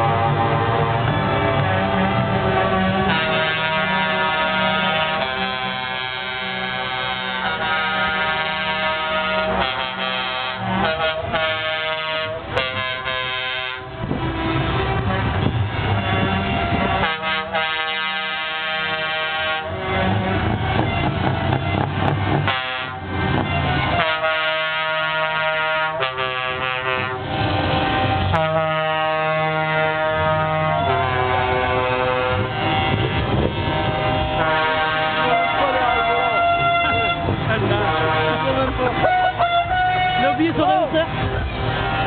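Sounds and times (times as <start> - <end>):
truck air horns blasting: 0.0 - 42.0
truck engines rumbling: 0.0 - 42.0.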